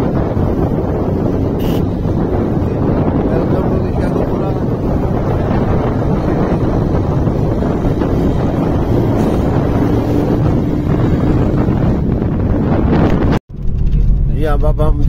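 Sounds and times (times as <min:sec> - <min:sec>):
road and traffic noise: 0:00.0 - 0:15.0
wind buffeting microphone: 0:00.0 - 0:15.0.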